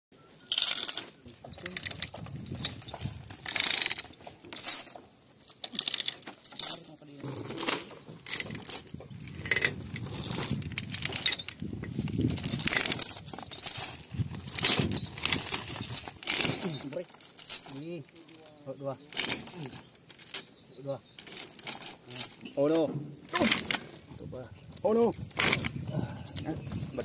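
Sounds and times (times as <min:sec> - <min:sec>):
dry stalks rustling: 0:00.5 - 0:27.0
steel chain clinking: 0:00.5 - 0:27.0.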